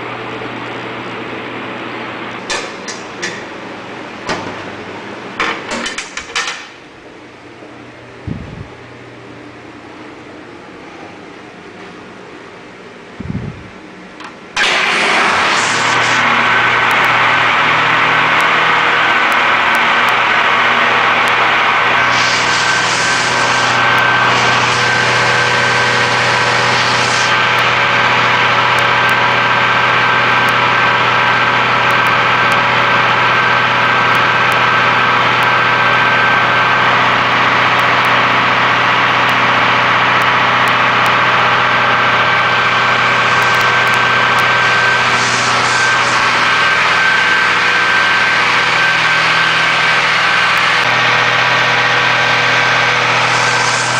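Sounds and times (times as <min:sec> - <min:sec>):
steady whining tones: 0:02.4 - 0:53.9
transmitter equipment drone: 0:07.0 - 0:53.9.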